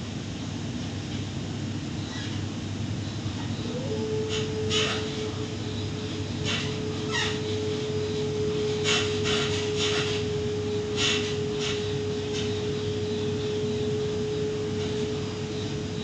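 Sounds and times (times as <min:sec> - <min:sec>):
constant humming tone: 0:00.0 - 0:16.0
train carriage rumble: 0:00.0 - 0:16.0.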